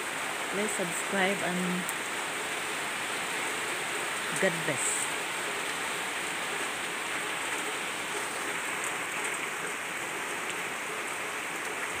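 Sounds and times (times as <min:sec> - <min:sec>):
heavy rain on leaves: 0:00.0 - 0:12.0.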